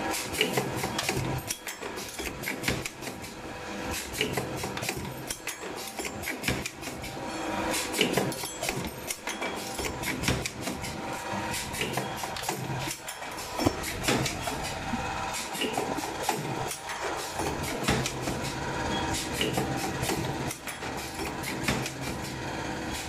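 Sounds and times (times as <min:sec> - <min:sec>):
machine motor hum: 0:00.0 - 0:23.0
mechanical clicks and clanks: 0:00.0 - 0:23.0.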